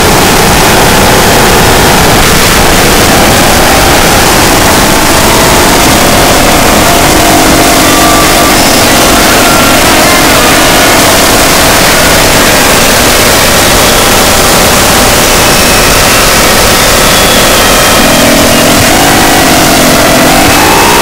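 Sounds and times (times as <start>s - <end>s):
distorted electronic noise music: 0.0s - 21.0s.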